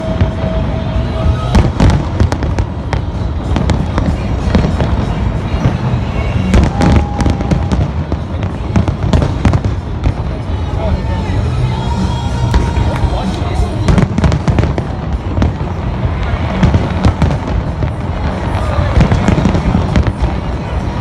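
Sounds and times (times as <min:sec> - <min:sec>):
fireworks cracks and bangs: 0:00.0 - 0:21.0.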